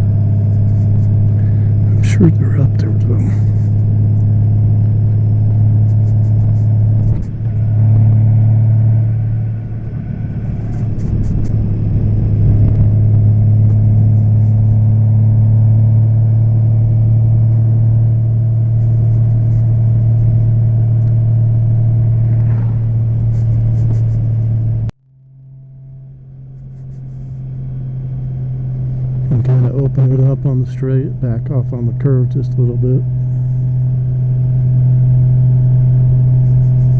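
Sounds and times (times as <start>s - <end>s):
motorcycle engine droning: 0.0s - 36.9s.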